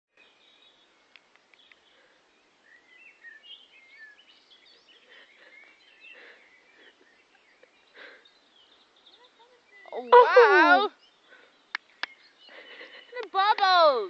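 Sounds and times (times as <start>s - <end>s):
small birds chirping: 0.1s - 14.0s
low background hiss: 0.2s - 14.0s.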